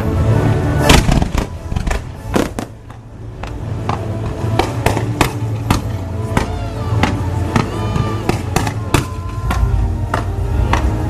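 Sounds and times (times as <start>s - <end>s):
loud show music: 0.0s - 11.0s
fireworks cracking and booming: 0.9s - 11.0s.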